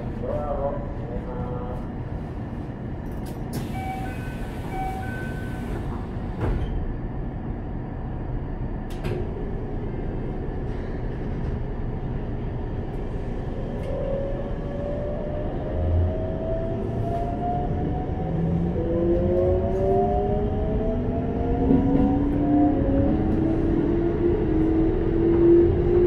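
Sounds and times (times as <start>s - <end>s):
low train equipment rumble: 0.0s - 26.0s.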